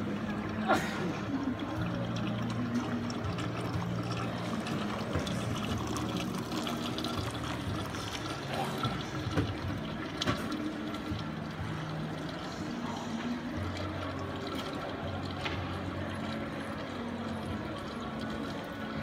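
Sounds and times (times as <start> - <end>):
aquarium water splashing: 0.0 - 19.0
murmur of voices: 0.0 - 19.0.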